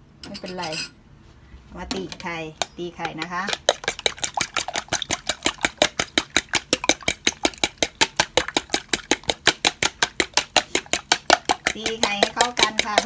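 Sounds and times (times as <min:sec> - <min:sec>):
metal whisk clicking against bowl: 0:02.2 - 0:13.0.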